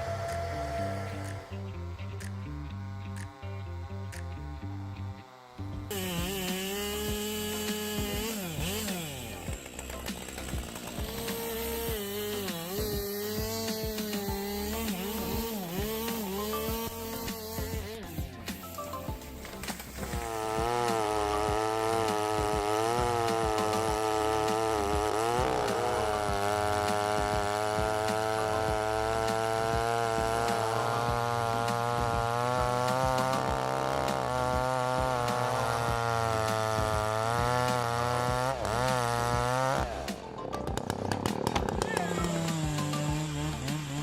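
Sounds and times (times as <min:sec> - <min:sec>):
chainsaw cutting wood: 0:00.0 - 0:44.0.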